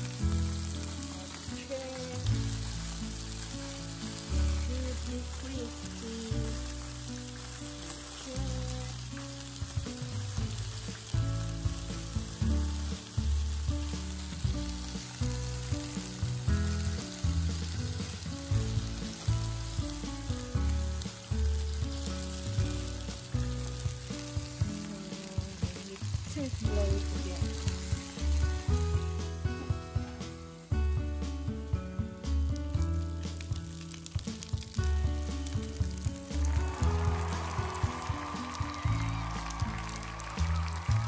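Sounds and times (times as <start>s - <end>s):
food sizzling on a grill: 0.0s - 41.0s
background music with a beat: 5.4s - 41.0s.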